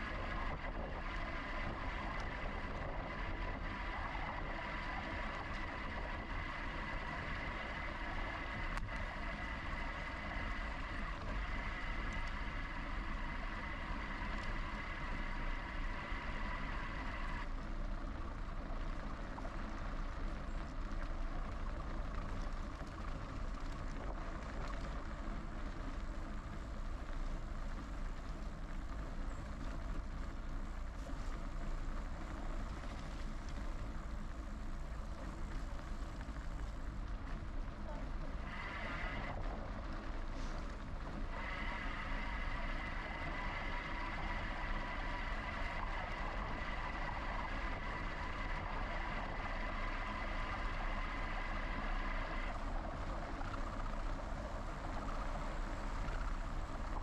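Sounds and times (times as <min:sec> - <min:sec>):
high whine: 0:00.0 - 0:17.6, 0:23.9 - 0:57.0
bike ride rumble: 0:00.0 - 0:57.0.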